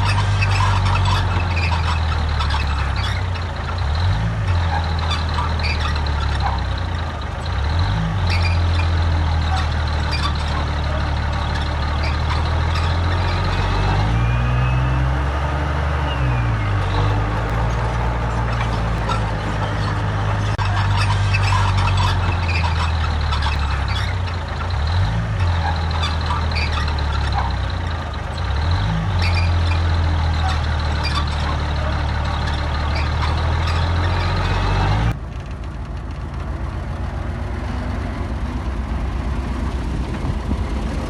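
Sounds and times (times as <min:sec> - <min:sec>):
heavy diesel engine under load: 0:00.0 - 0:41.0.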